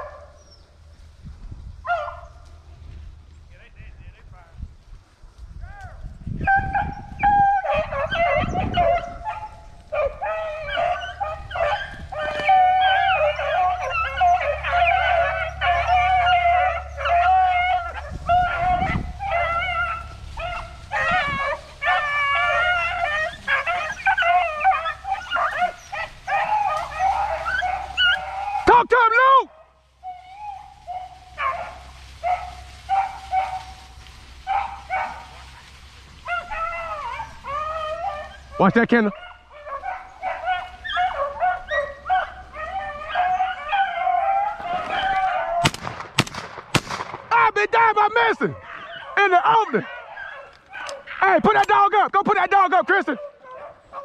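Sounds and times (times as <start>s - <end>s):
dogs baying and howling: 0.0s - 0.8s, 1.8s - 2.6s, 5.6s - 45.9s, 47.2s - 54.0s.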